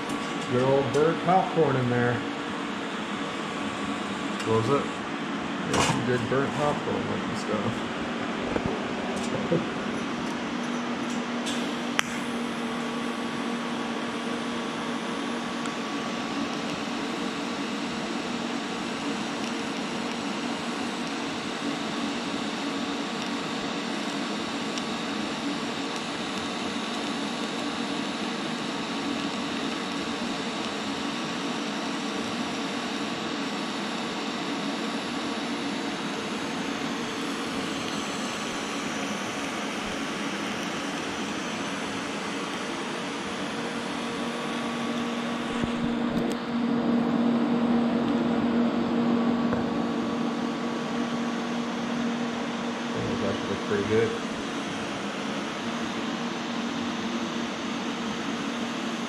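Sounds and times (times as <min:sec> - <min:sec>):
arc welder hissing and humming: 0:00.0 - 0:59.0.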